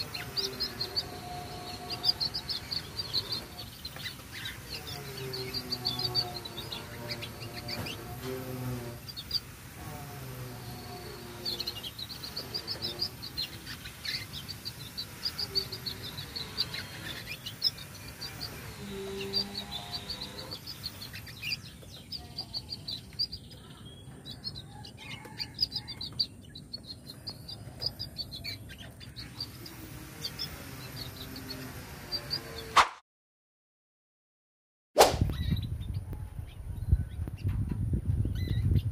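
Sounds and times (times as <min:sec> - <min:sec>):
canary chirping: 0:00.0 - 0:32.8, 0:35.3 - 0:37.6, 0:38.2 - 0:38.9.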